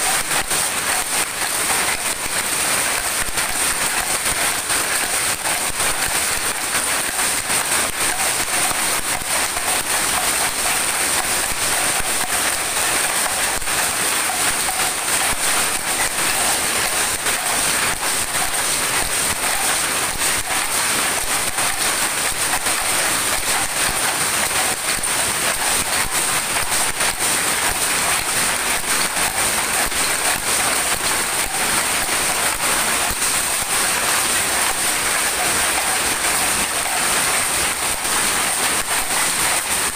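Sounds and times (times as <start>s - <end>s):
power looms clattering: 0.0s - 39.9s.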